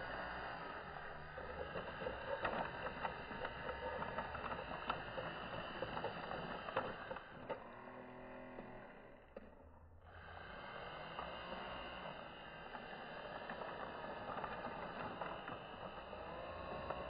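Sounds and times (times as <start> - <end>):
toy electric motors whirring: 0.2 - 17.0.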